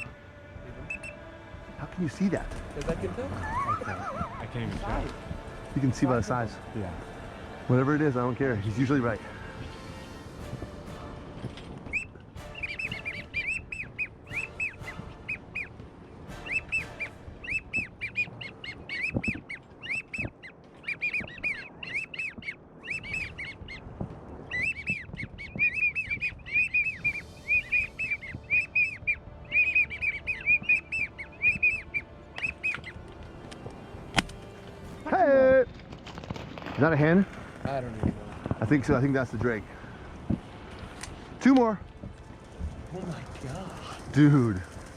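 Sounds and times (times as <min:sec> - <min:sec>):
ducks whistling: 0:00.0 - 0:37.3.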